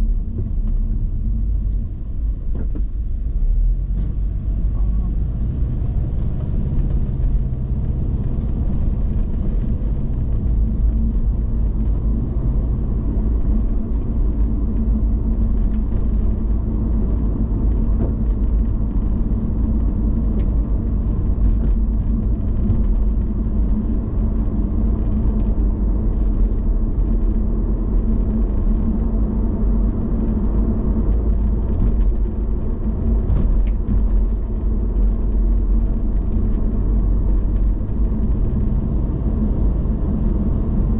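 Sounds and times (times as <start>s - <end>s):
car engine low rumble: 0.0s - 40.9s
road noise: 0.0s - 40.9s.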